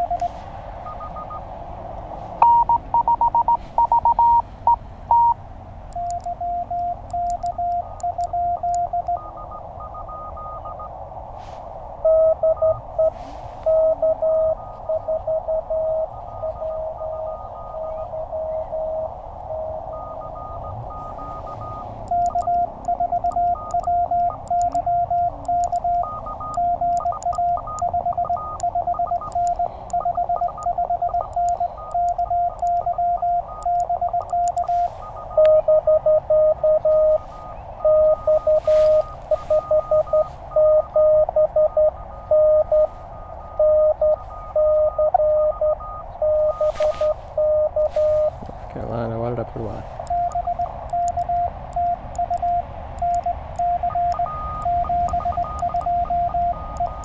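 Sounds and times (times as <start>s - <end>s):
high-pitched morse code tone: 0.0s - 1.5s, 2.4s - 57.0s
lower-pitched morse code tone: 0.0s - 1.5s, 2.4s - 57.0s
radio band hiss: 0.0s - 4.7s, 6.3s - 55.7s.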